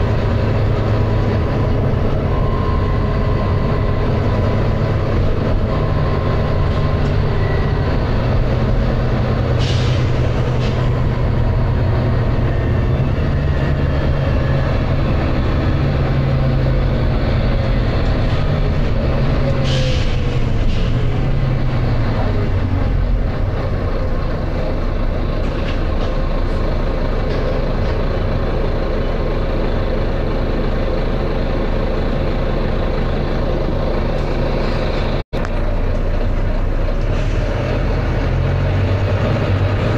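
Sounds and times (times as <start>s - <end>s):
bus diesel engine under load: 0.0s - 39.9s.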